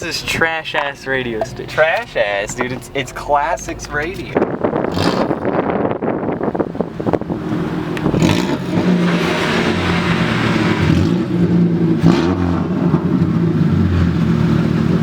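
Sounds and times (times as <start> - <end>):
car engine while driving: 0.0 - 15.0.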